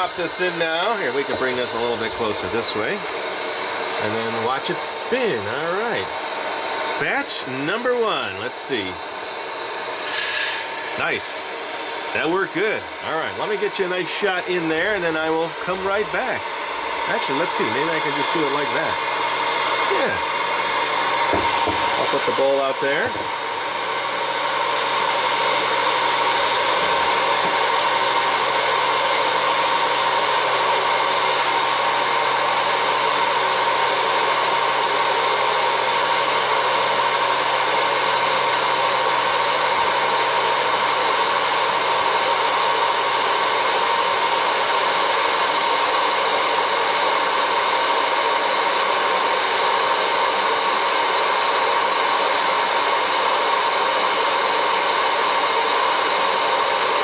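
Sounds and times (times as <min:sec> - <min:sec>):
popcorn popper fan whooshing: 0:00.0 - 0:57.0.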